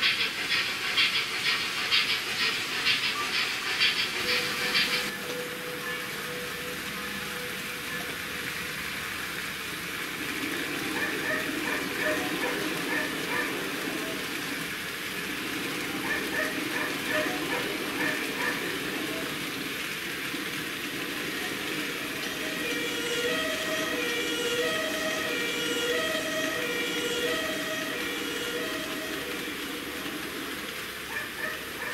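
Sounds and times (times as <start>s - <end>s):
model train motor hum: 0.0s - 31.8s.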